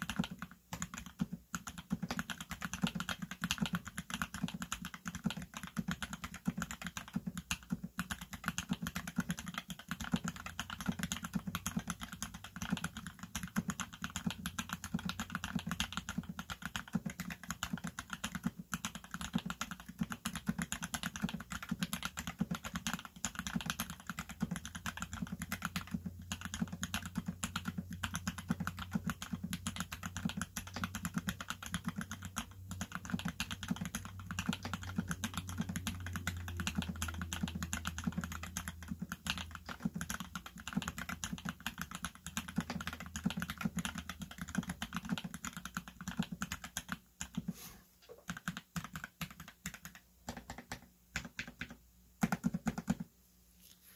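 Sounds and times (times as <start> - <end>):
fast mechanical keyboard typing: 0.0 - 47.5, 48.1 - 53.1.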